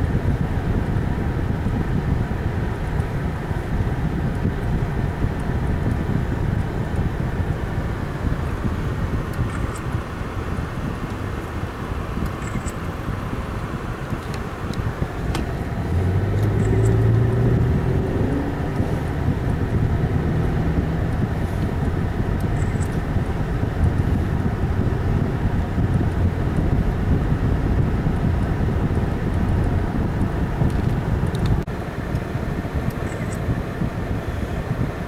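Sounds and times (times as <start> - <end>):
car road and engine noise: 0.0 - 35.0
low engine drone in tunnel: 0.0 - 35.0.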